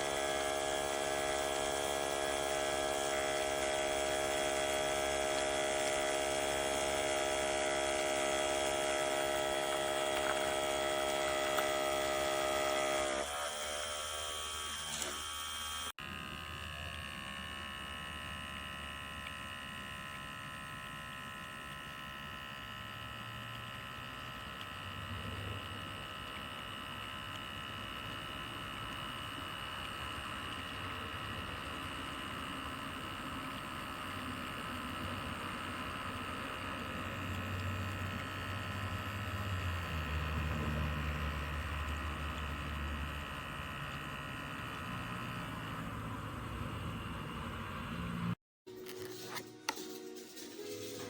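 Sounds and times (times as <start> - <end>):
electric pump whining: 0.0 - 51.0.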